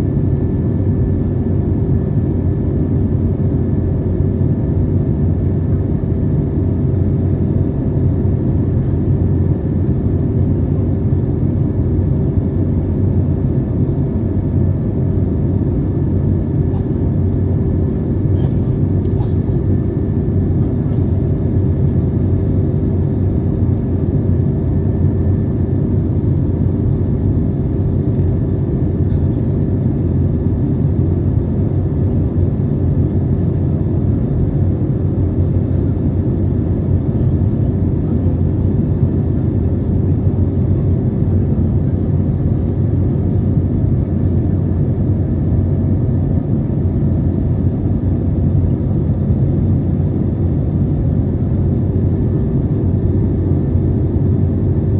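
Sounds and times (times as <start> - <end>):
airplane engines and rushing air: 0.0 - 54.9
faint steady hum: 0.0 - 54.9.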